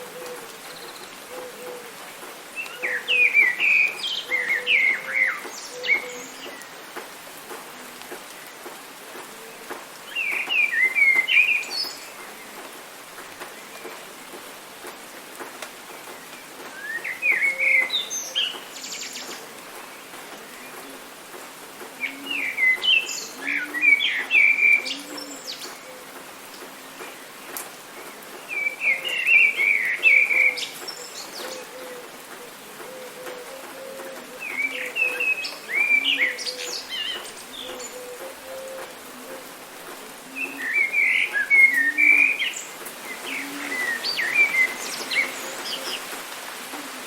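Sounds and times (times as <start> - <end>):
rain hiss: 0.0 - 47.0
songbird chirping: 0.2 - 47.0.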